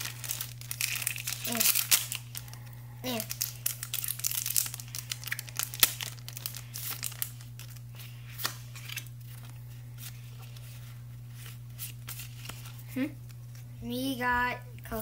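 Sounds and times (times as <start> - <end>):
wrapper crinkling and tearing: 0.0 - 13.4
cards rustling: 0.0 - 13.7
steady low hum: 0.0 - 15.0.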